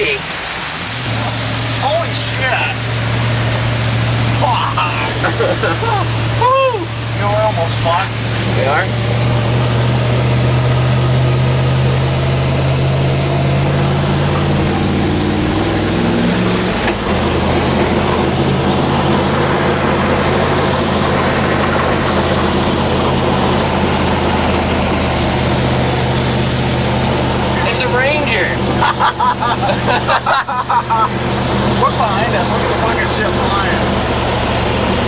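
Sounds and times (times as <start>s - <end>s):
water spray hiss: 0.0s - 35.0s
truck engine running under load: 0.2s - 35.0s.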